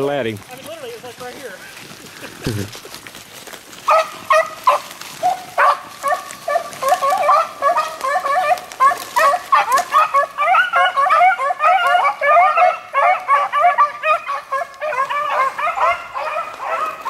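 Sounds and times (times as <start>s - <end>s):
dogs baying: 2.7s - 17.0s.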